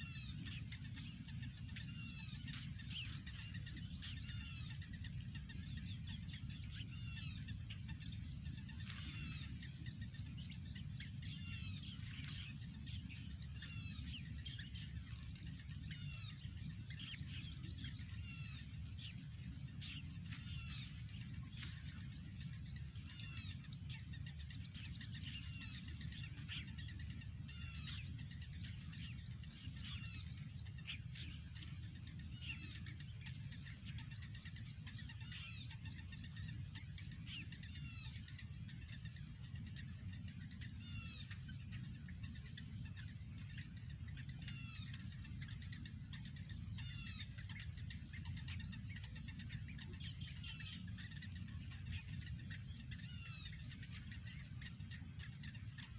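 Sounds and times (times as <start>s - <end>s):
faint high whine: 0.0s - 55.9s
small birds chirping: 0.0s - 55.9s
steady low rumble: 0.0s - 55.9s.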